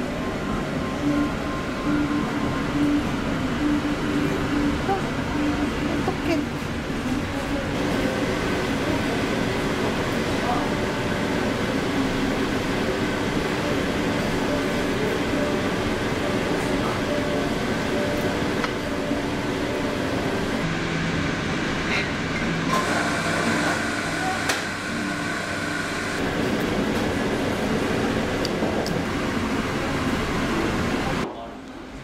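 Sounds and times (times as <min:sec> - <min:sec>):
steady mechanical hum: 0:00.0 - 0:32.0.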